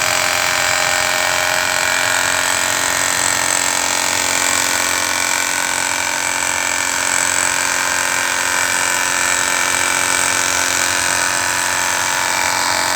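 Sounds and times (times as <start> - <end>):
machine humming: 0.0 - 12.9.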